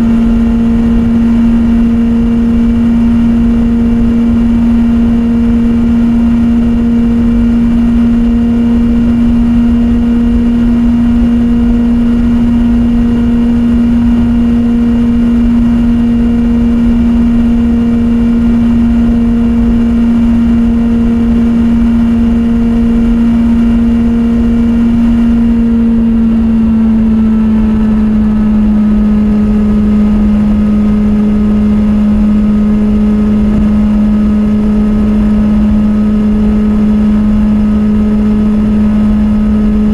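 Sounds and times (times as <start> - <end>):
motorcycle engine at steady revs: 0.0 - 39.9.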